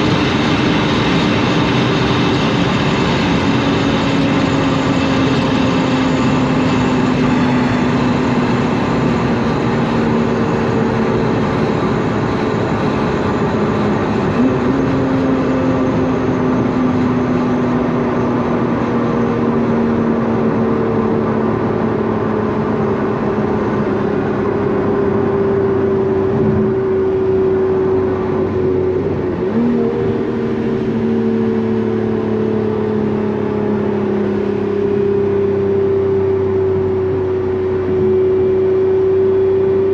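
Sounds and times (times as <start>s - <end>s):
car engine decelerating: 0.0s - 39.9s
downshifts raising revs: 0.0s - 39.9s
road and wind noise: 0.0s - 39.9s.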